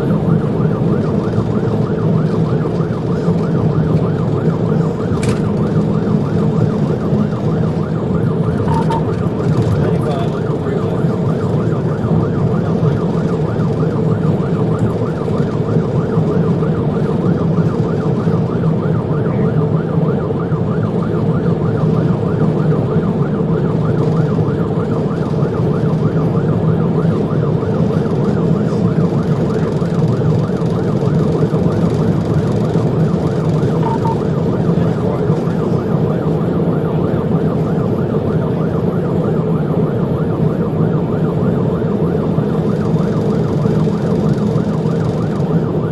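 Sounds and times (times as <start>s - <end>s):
car engine and road noise: 0.0s - 45.9s
police siren warbling: 0.0s - 45.9s.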